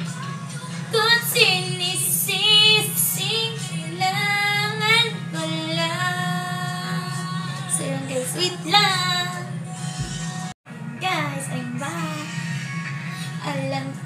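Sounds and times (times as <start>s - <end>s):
woman singing slow love song: 0.0s - 14.0s.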